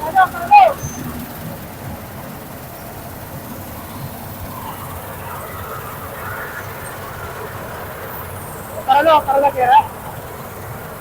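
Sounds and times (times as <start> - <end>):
combine harvester rumbling: 0.0 - 11.0.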